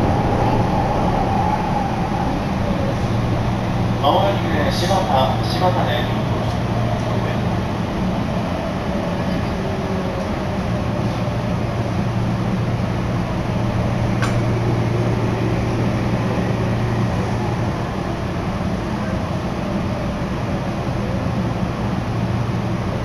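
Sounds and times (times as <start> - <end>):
passing train: 0.0 - 23.0
train cabin hum and rumble: 0.0 - 23.0.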